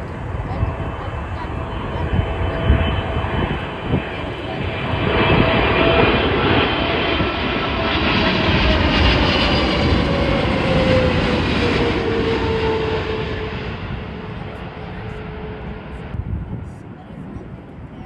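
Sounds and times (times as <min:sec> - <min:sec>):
falling engine whine: 0:00.0 - 0:16.2
jet engines roaring: 0:00.0 - 0:18.0.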